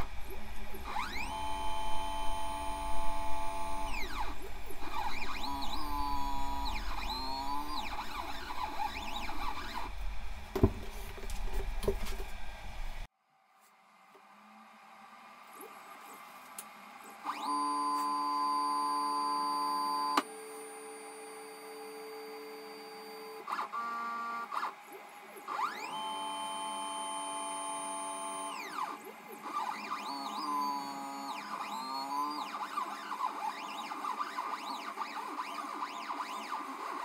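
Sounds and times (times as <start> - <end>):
stepper motors whining: 0.0 - 10.2, 17.0 - 37.0.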